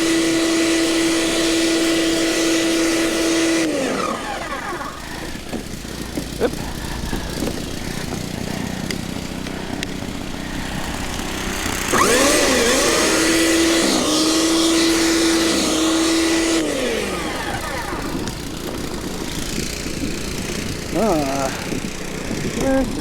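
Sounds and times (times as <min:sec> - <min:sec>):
gasoline engine revving: 0:00.0 - 0:23.0.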